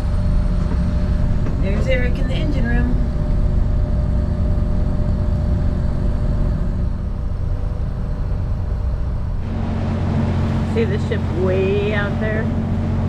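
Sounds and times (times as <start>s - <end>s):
boat diesel engine droning: 0.0s - 13.0s.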